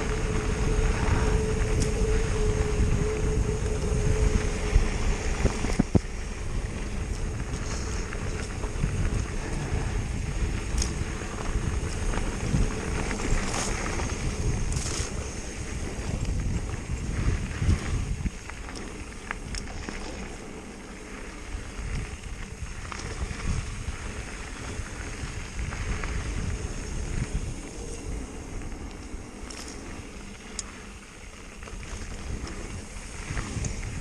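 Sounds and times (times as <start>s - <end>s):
bike clicks and rattles: 0.0s - 34.0s
bike tyres roaring on rough ground: 0.0s - 34.0s
wind buffeting microphone: 0.0s - 34.0s.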